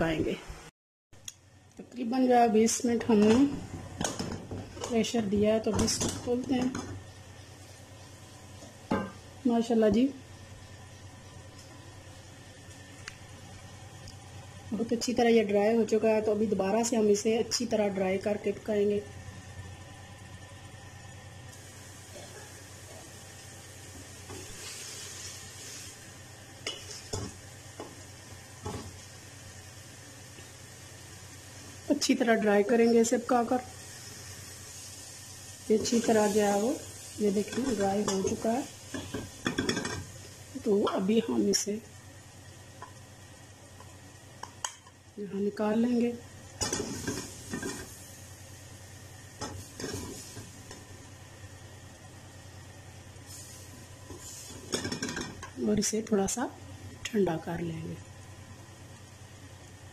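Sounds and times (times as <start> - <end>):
light sizzle: 0.0 - 59.9
steady low hum: 0.0 - 59.9.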